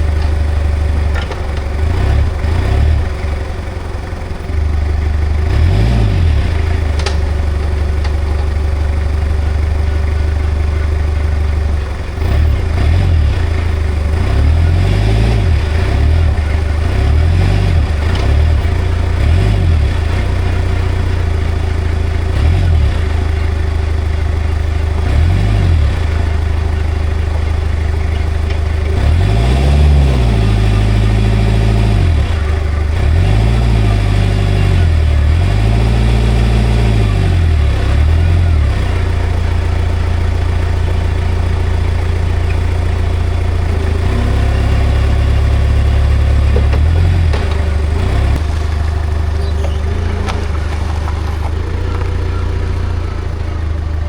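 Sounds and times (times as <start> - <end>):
forklift engine revving: 0.0 - 54.0.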